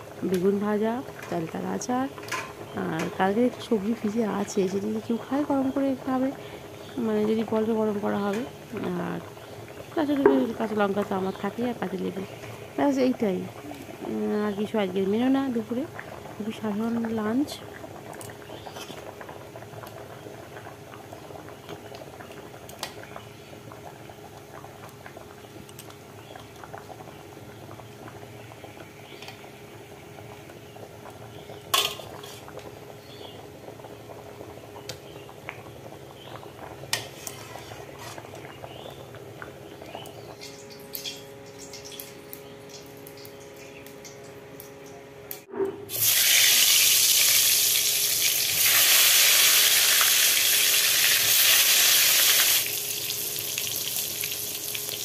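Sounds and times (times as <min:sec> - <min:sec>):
curry bubbling in a pot: 0:00.0 - 0:45.1
eggplant sizzling in oil: 0:00.0 - 0:45.1, 0:45.9 - 0:55.0.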